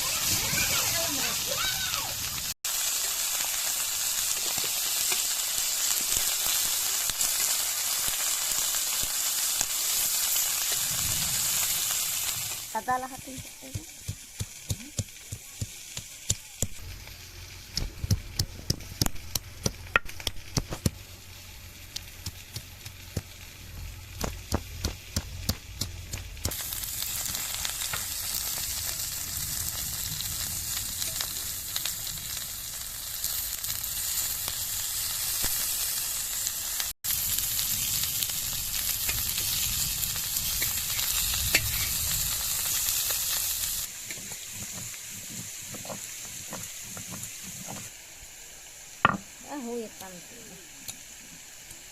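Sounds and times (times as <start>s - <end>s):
sharp crackles and clicks: 0.0s - 47.9s
food sizzling in a pot: 0.0s - 51.9s.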